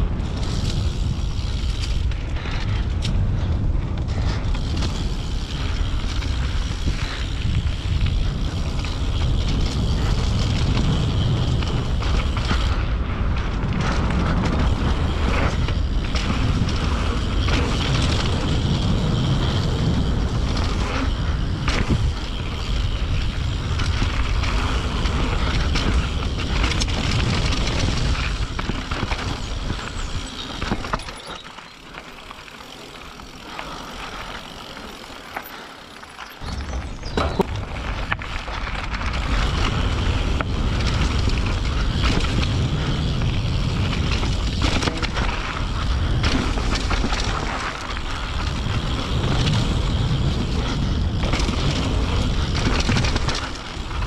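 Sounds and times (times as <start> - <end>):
wind buffeting microphone: 0.0 - 35.6, 36.4 - 54.0
bike rattling and knocking: 0.0 - 54.0
tyres rolling over dirt: 0.0 - 54.0.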